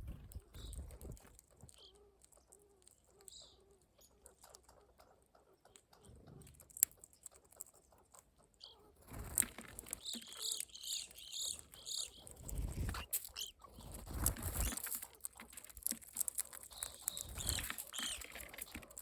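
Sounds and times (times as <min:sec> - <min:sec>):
songbirds calling: 0:00.0 - 0:19.0.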